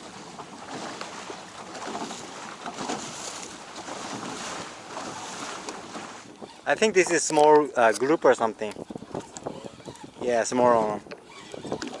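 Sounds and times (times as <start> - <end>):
sea water splashing: 0.0 - 12.0
wind buffeting microphone: 0.1 - 12.0.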